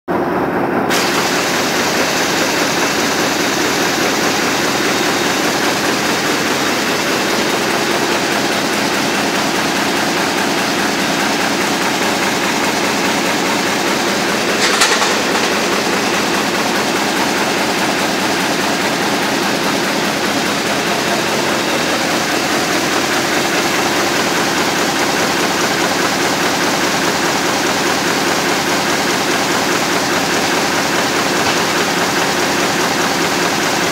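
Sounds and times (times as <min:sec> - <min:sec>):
printing press running: 0:00.1 - 0:33.9.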